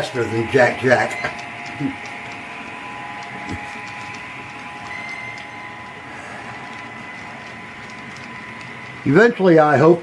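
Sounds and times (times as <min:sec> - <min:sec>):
small electric motor whine: 0:00.0 - 0:10.0
wheels clicking over rails: 0:00.0 - 0:10.0.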